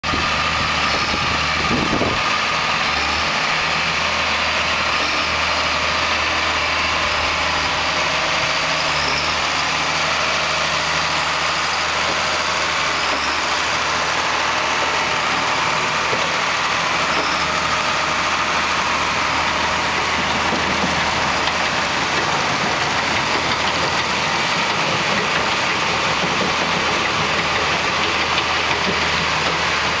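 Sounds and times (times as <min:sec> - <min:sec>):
tractor and baler drone: 0:00.0 - 0:30.0.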